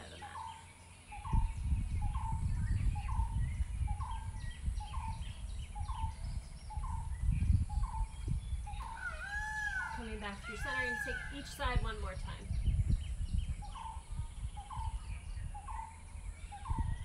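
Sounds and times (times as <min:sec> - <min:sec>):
bird calling: 0:00.0 - 0:12.5, 0:13.6 - 0:17.0
low uneven rumble: 0:00.0 - 0:17.0.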